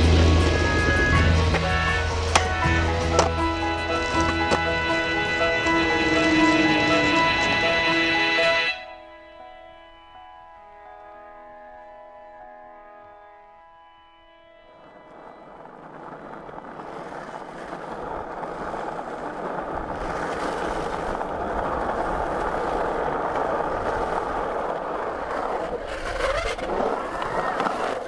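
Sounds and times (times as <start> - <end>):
skateboard wheels rolling on asphalt: 0.0 - 12.0, 14.0 - 28.0.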